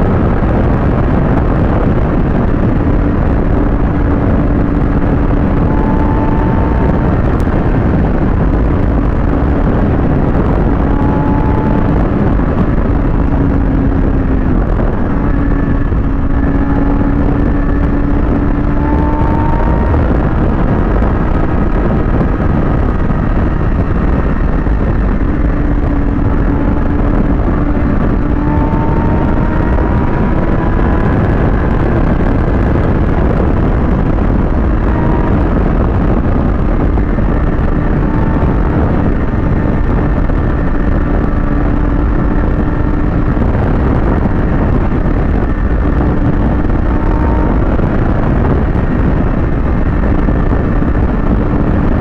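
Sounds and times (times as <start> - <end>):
motorcycle engine cruising: 0.0 - 52.0
wind rush on microphone: 0.0 - 52.0.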